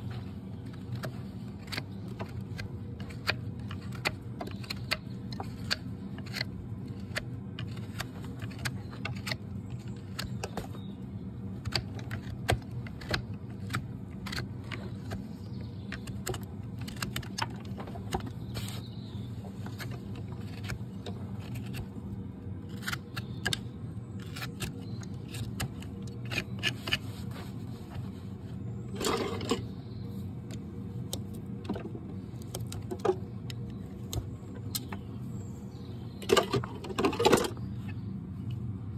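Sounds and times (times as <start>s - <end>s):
hoof tools clicking and scraping: 0.0s - 38.6s
steady low hum: 0.0s - 38.9s.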